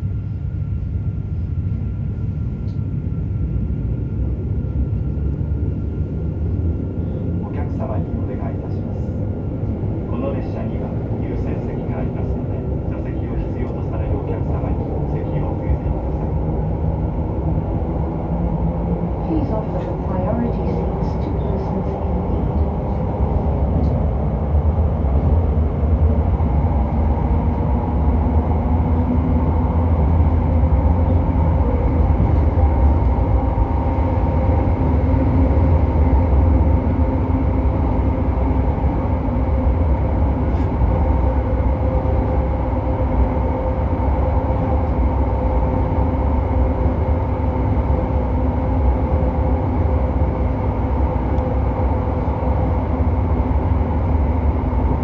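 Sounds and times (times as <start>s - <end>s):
train rail and bogie rumble: 0.0s - 55.0s.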